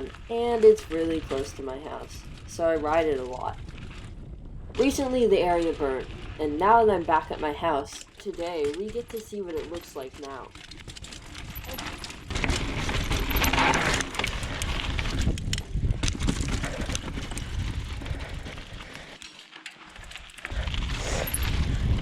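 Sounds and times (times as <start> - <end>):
wind rumbling on microphone: 0.0 - 19.2, 20.0 - 22.0
bike rattle and tyre noise: 0.0 - 22.0.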